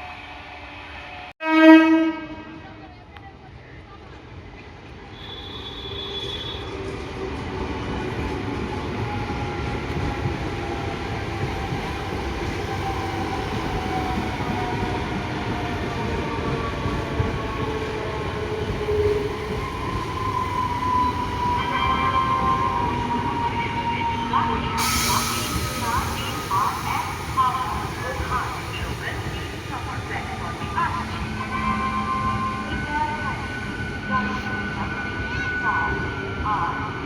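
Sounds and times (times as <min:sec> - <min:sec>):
train wheels rumbling on rails: 0:03.1 - 0:37.0.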